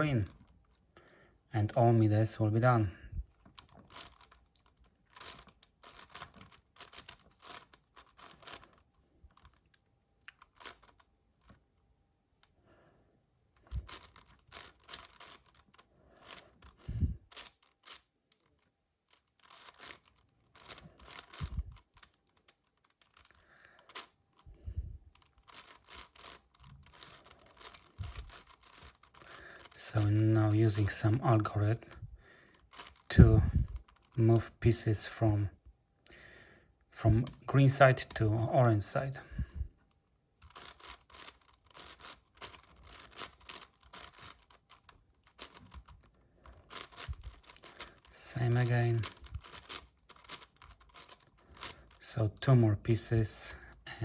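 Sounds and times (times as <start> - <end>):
puzzle cube plastic clicks: 3.4 - 11.6, 13.6 - 35.1, 39.8 - 53.8.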